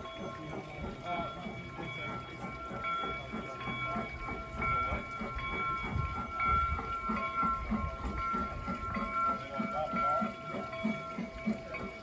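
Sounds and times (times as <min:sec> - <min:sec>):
model steam locomotive chuffing: 0:00.0 - 0:12.0.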